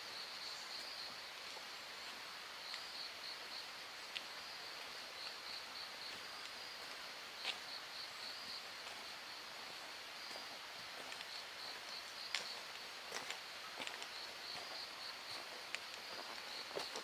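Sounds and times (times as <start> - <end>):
faint hiss: 0.0 - 17.0
insects trilling: 0.0 - 17.0.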